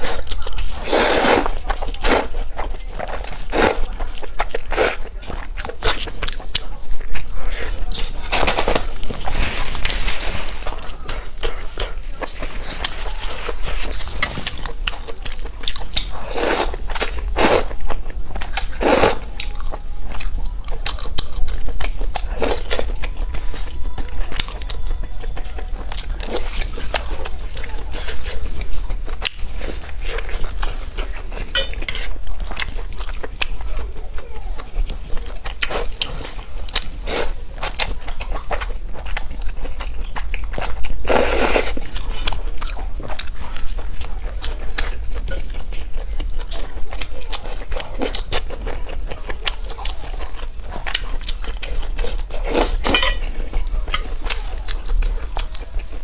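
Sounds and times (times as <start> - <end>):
wet clicking chewing: 10.6 - 56.0.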